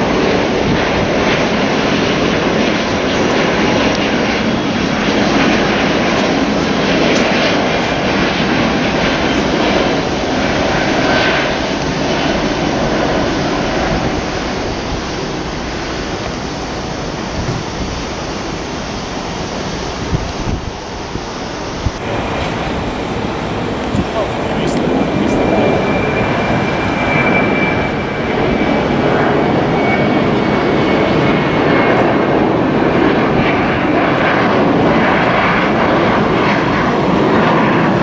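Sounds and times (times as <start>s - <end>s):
jet airliner climbing: 0.0s - 38.0s.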